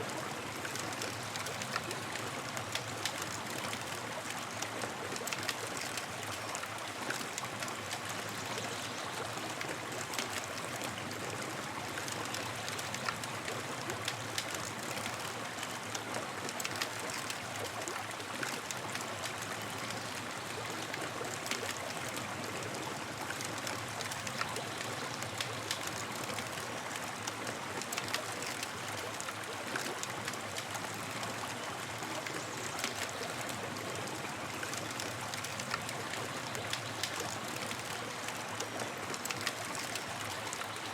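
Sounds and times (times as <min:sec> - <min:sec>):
campfire crackling and hissing: 0:00.1 - 0:40.9.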